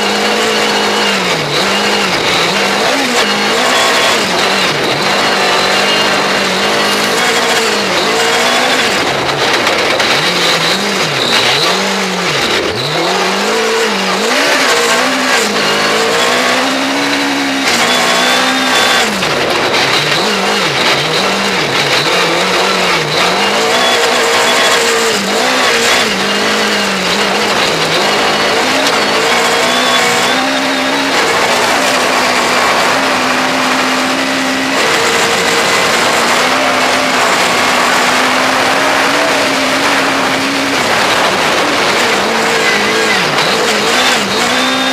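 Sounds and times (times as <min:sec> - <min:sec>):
rally car engine revving: 0:00.0 - 0:44.9
road and wind noise: 0:00.0 - 0:44.9.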